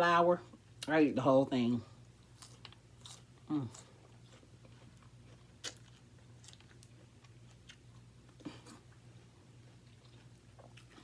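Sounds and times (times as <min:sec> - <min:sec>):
faint low hum: 0:00.0 - 0:11.0
chewing crisp food: 0:02.0 - 0:11.0.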